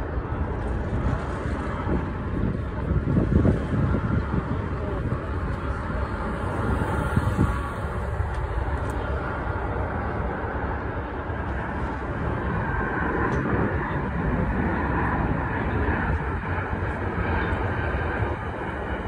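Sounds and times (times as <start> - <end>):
jet airliner passing low: 0.0 - 19.0.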